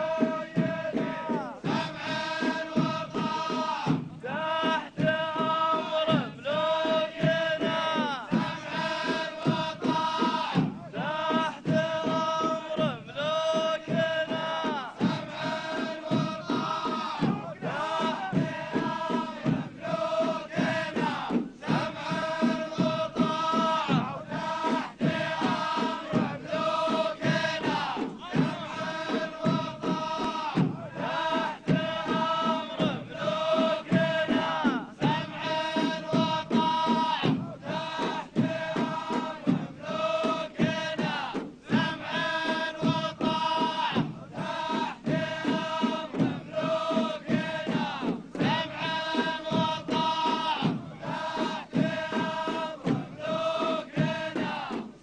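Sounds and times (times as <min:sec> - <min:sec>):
large drums beating: 0:00.0 - 0:55.0
men's chorus chanting in unison: 0:00.0 - 0:55.0.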